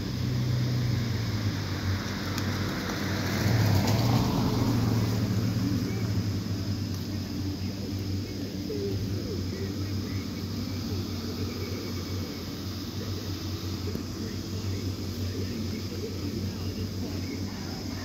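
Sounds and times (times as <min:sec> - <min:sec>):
electric blower fans humming: 0:00.0 - 0:18.0.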